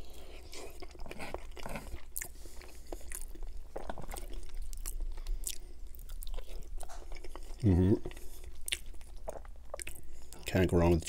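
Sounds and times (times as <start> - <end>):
chewing with wet mouth clicks: 0.0 - 10.5.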